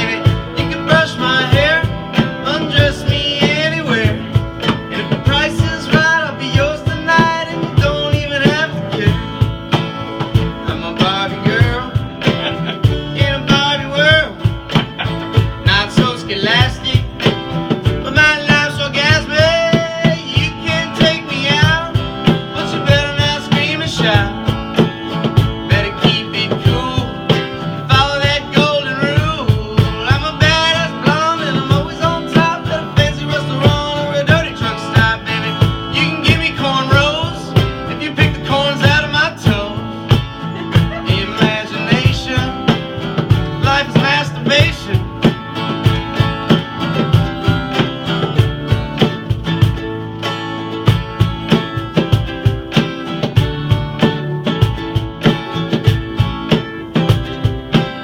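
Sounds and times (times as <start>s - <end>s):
guitar: 0.0s - 58.0s
live country band music: 0.0s - 58.0s
steady drum beat: 0.0s - 58.0s.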